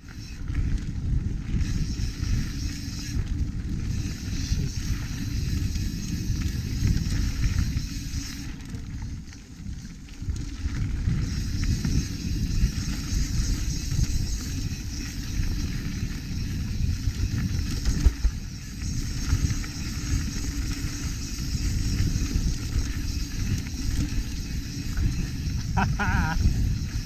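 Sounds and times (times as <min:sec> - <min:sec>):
bike tyre noise: 0:00.0 - 0:27.0
wind noise on microphone: 0:00.0 - 0:27.0
bike rattling and knocks: 0:00.1 - 0:27.0.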